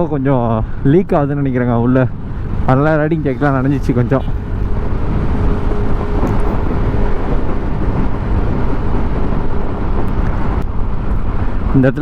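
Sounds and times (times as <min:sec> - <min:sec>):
scooter engine and road noise: 0:00.0 - 0:12.0
wind on microphone: 0:00.6 - 0:12.0.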